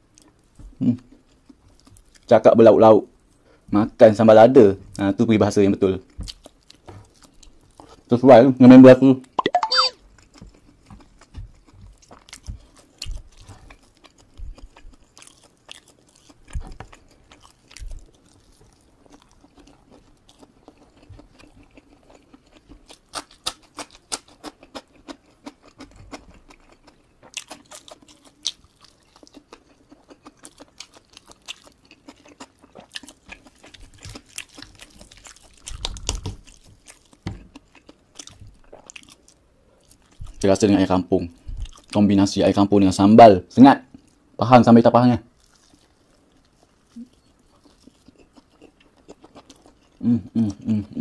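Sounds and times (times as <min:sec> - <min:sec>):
person chewing and crunching: 0:00.1 - 0:02.3, 0:06.0 - 0:08.1, 0:09.3 - 0:42.1, 0:45.3 - 0:51.0.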